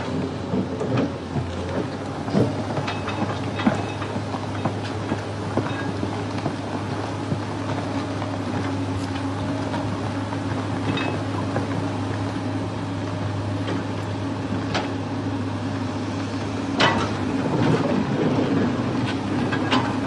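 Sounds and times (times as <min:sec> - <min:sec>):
engine drone: 0:00.0 - 0:20.0
rough rumble with clatter: 0:00.0 - 0:20.0.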